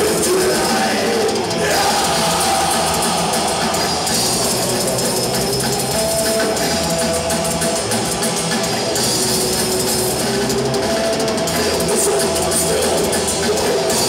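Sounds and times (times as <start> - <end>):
distorted electric guitars: 0.0 - 14.0
drum kit: 0.0 - 14.0
metal band playing live: 0.0 - 14.0.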